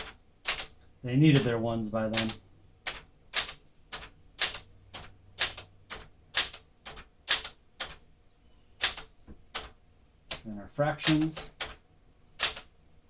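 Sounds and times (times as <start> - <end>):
typewriter keys striking: 0.0 - 8.0, 8.8 - 11.8, 12.4 - 12.7.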